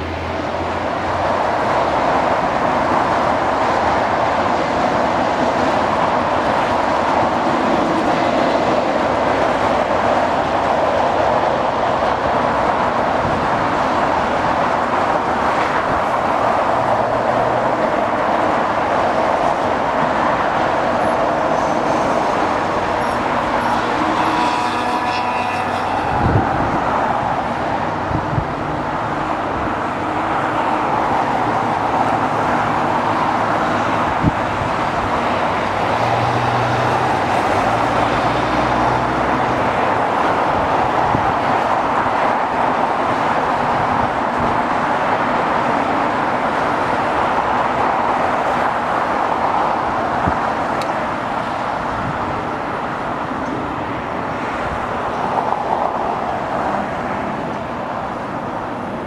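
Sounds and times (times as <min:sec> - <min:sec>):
distant roar of airport engines: 0:00.0 - 0:59.0
traffic: 0:00.0 - 0:59.0.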